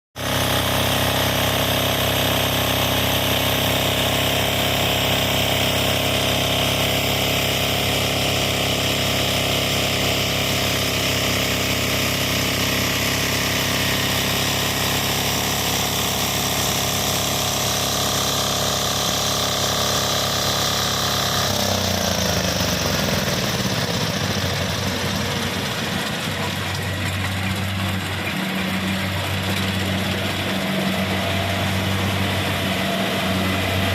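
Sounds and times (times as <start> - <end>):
combine harvester diesel engine: 0.2 - 33.9.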